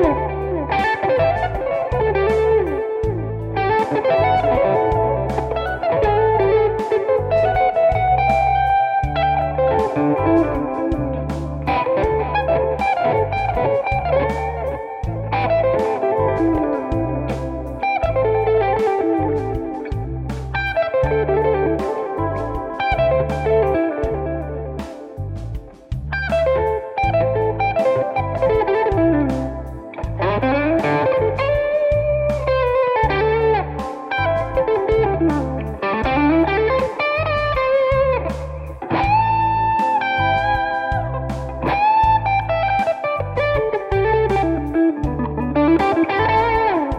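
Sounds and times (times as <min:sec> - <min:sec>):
electric guitar licks: 0:00.0 - 0:46.9
low backing pulse: 0:00.0 - 0:46.9.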